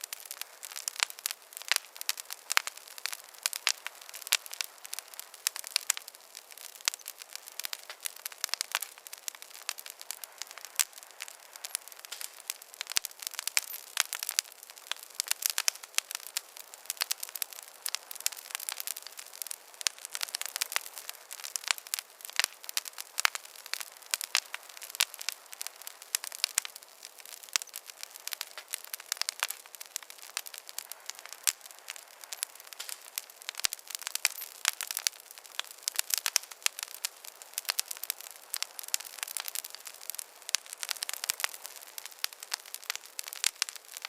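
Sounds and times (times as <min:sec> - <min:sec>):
soft high hiss: 0:00.0 - 0:44.0
wood fire crackling: 0:00.0 - 0:44.0.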